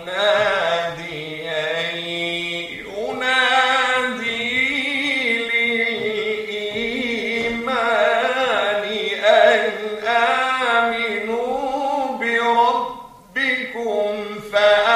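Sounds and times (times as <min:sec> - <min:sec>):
person chanting recitation: 0:00.0 - 0:14.9.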